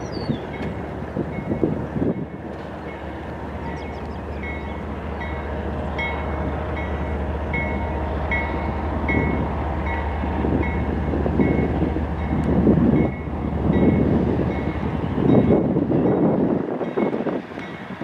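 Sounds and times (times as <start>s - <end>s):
train rumbling: 0.0s - 18.0s
railroad crossing bell dinging: 0.5s - 18.0s.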